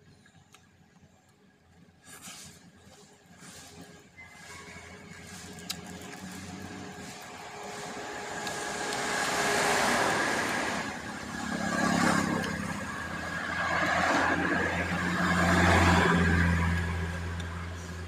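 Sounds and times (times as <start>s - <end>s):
motorbikes passing: 3.4s - 18.0s.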